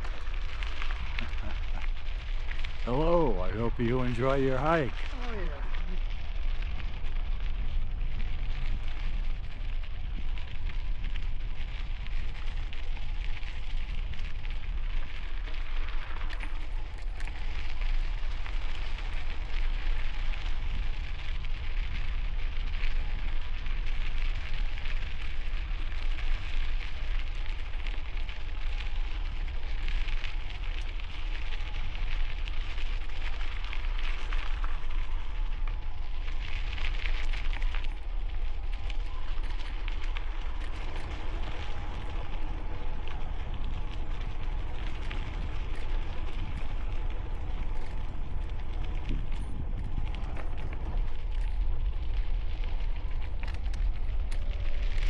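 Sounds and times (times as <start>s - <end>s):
bicycle tyres on gravel: 0.0s - 55.0s
wind buffeting microphone: 0.0s - 55.0s.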